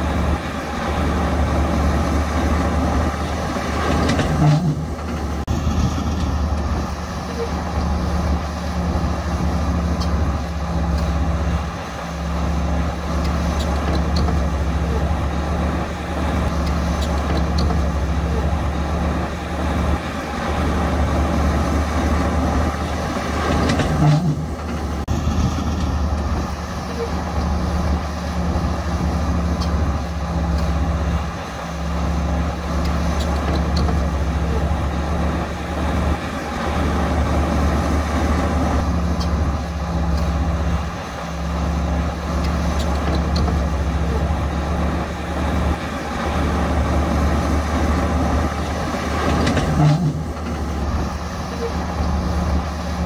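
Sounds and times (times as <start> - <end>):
diesel engine droning under load: 0.0 - 53.0.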